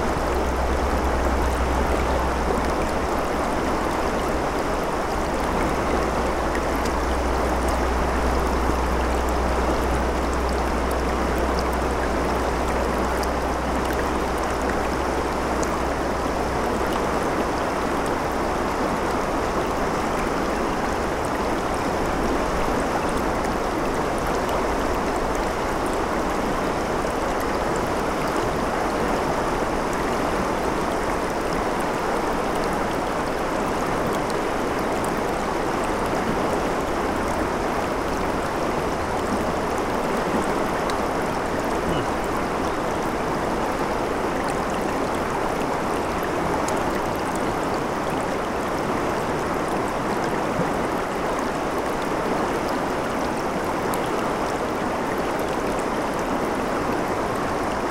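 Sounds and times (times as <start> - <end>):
river water rushing over rocks: 0.0 - 57.9.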